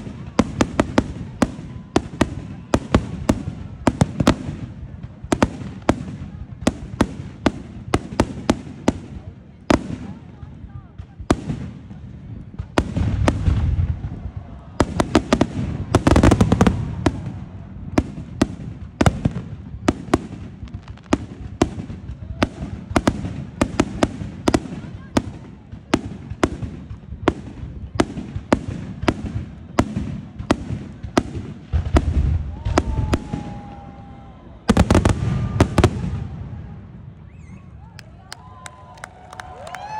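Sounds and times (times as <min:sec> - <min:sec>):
fireworks bursting: 0:00.0 - 0:39.9
fireworks crackle: 0:00.0 - 0:39.9.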